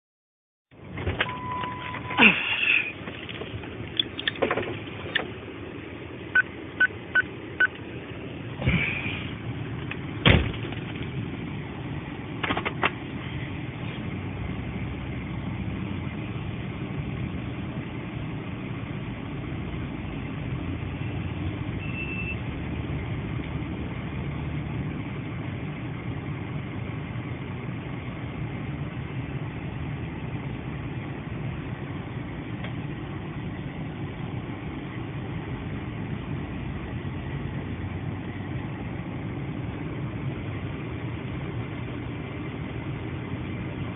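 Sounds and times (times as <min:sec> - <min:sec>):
vehicle engine idling: 0:00.8 - 0:21.8, 0:22.4 - 0:43.9.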